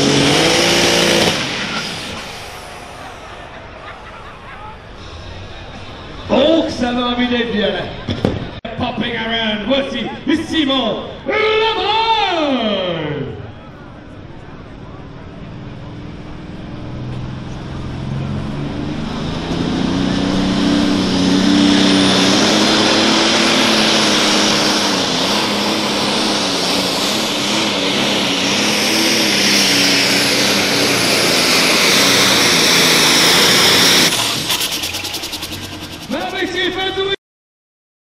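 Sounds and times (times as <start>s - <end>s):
tractor diesel engine at full power: 0.0s - 8.1s, 13.4s - 37.2s.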